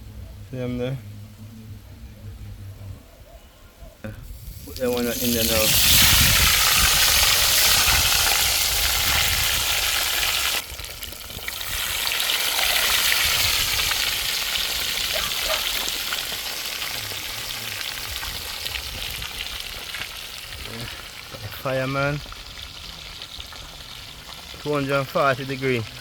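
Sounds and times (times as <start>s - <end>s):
fish sizzling in hot oil: 4.3s - 26.0s.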